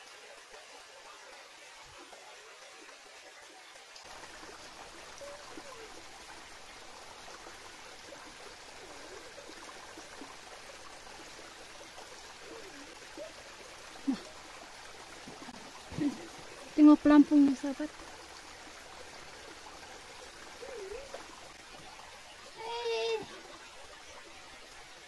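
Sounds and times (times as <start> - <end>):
small waterfall splashing into pool: 0.0 - 25.0.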